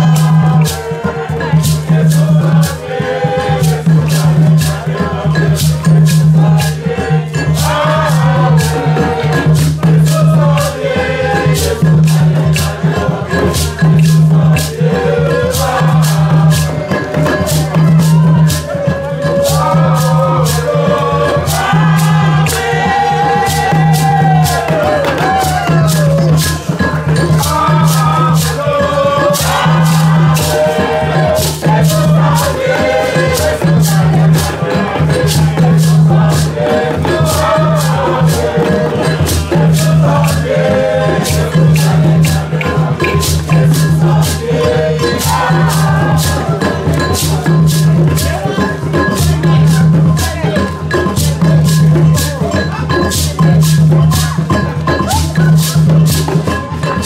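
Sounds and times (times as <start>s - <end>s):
group singing a hymn: 0.0s - 57.0s
shaken rattle: 0.0s - 57.0s.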